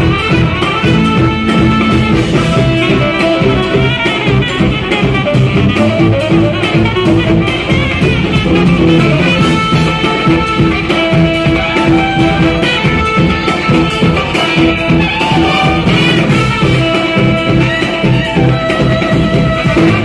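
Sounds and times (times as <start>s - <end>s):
jazz-funk band playing: 0.0s - 20.0s.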